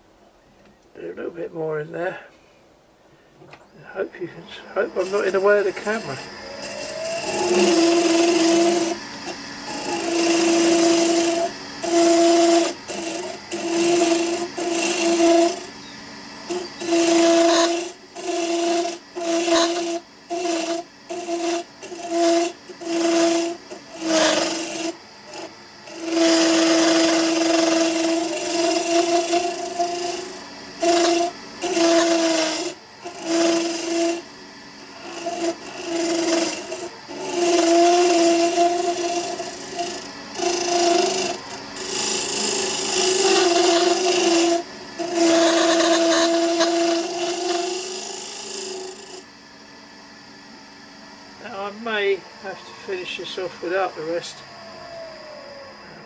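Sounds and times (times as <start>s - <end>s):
hollowing tool scraping spinning wood: 3.8s - 54.4s.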